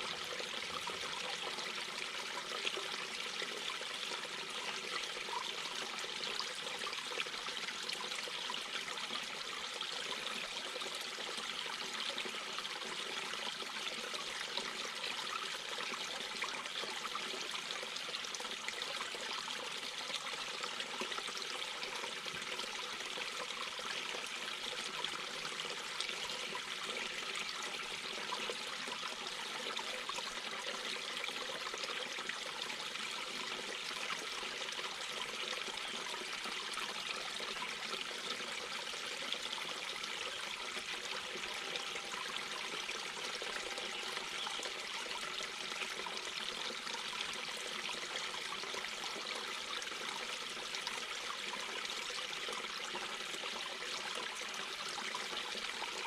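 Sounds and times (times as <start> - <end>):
brook babbling over rocks: 0.0 - 56.0.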